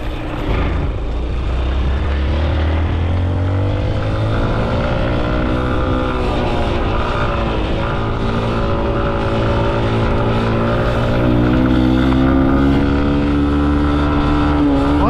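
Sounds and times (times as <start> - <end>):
vehicle engine speeding up: 0.0 - 15.0.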